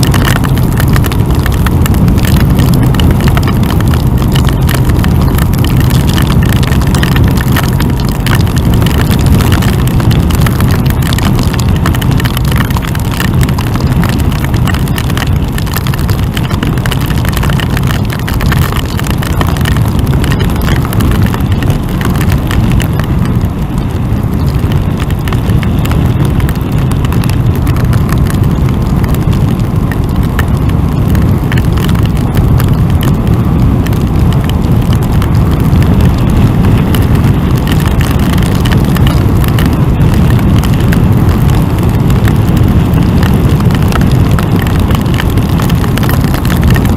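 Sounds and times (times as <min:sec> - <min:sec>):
hail and rain striking microphone: 0:00.0 - 0:46.9
wind roaring over microphone: 0:00.0 - 0:46.9.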